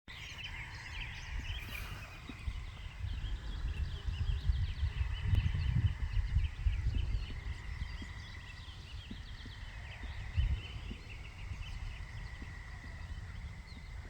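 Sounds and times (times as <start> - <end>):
small birds chirping: 0.1 - 14.0.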